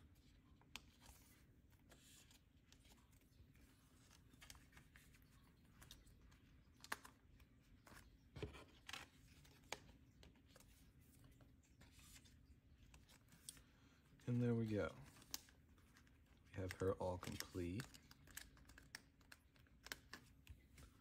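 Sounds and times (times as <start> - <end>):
plastic sleeves rustling: 0.0 - 21.0.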